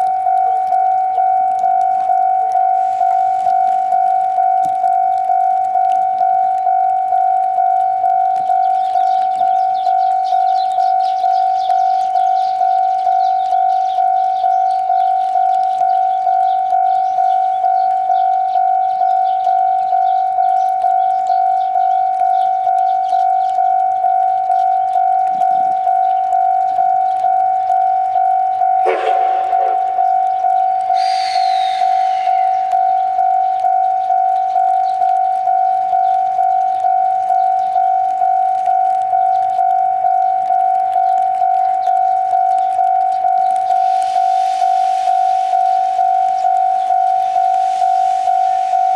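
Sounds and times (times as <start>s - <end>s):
level crossing warning bell: 0.1s - 34.8s, 43.0s - 48.9s.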